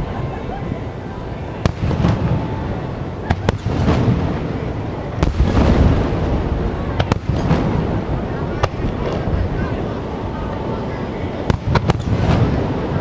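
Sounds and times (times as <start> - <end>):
low rumble of fireworks barrage: 0.0 - 13.0.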